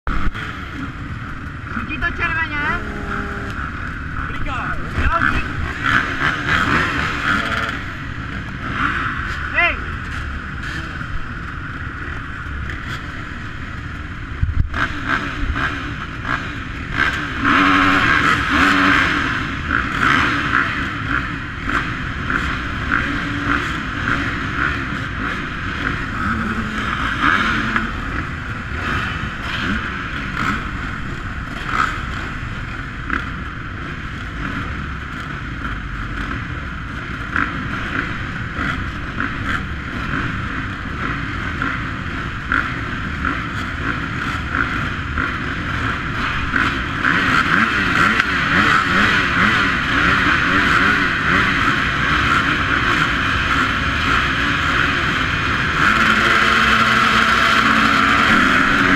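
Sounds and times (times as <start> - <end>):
motocross bikes revving: 0.1 - 58.9.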